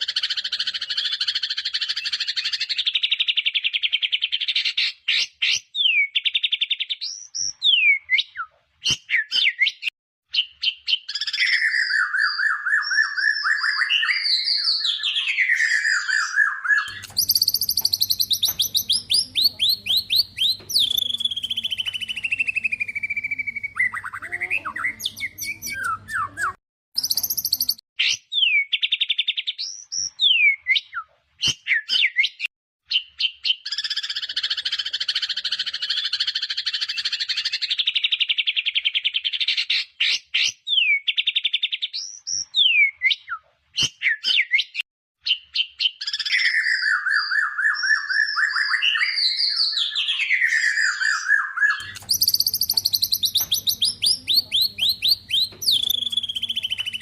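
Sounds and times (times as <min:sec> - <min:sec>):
bird singing whistles and trills: 0:00.0 - 0:08.5, 0:09.1 - 0:31.0, 0:31.7 - 0:43.4, 0:44.0 - 0:57.0.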